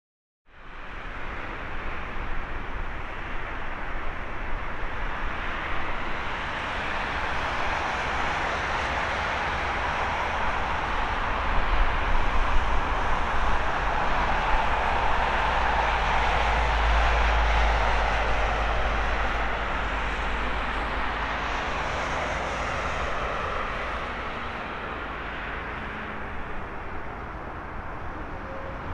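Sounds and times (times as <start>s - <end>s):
jet engine rumble: 0.8s - 28.9s.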